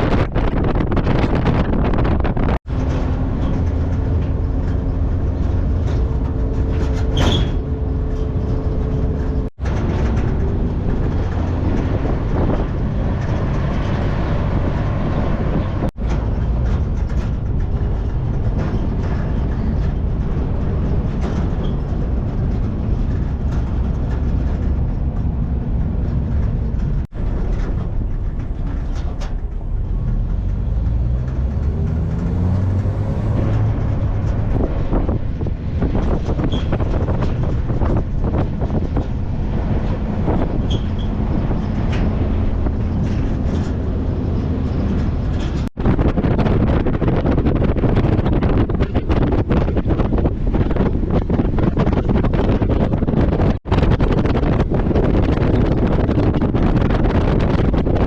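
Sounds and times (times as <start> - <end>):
car engine and road rumble: 0.0 - 58.0
wind noise: 0.0 - 58.0.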